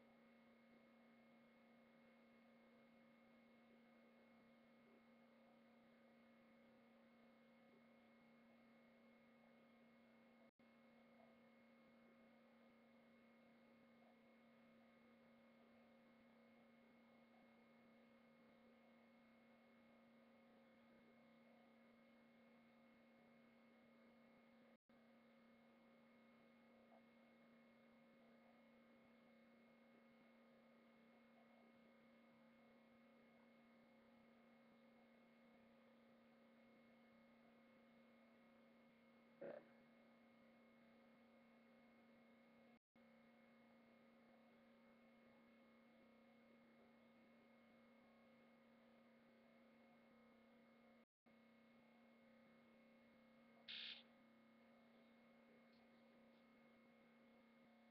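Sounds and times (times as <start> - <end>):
faint electronic hum: 0.0 - 57.9.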